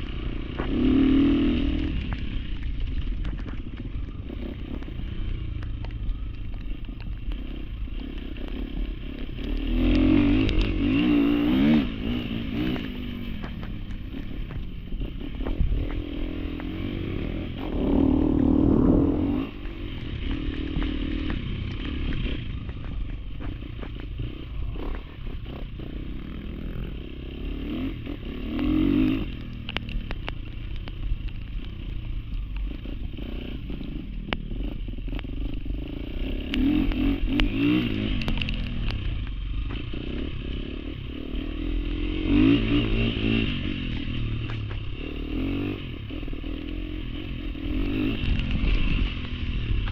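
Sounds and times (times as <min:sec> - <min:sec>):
dirt bike engine revving: 0:00.0 - 0:02.6, 0:04.1 - 0:30.8, 0:31.8 - 0:49.9.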